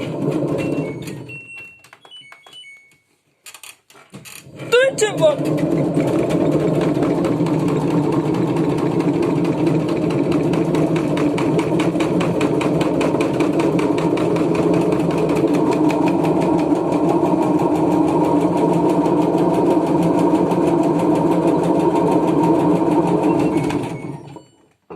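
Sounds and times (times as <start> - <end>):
washing machine knocking: 0.0 - 1.6, 4.4 - 24.5.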